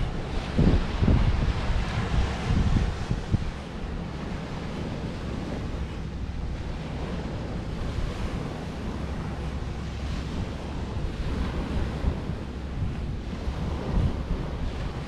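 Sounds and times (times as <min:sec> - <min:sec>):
low rumble: 0:00.0 - 0:15.0
surf washing on beach: 0:00.0 - 0:15.0
wind buffeting microphone: 0:00.0 - 0:15.0.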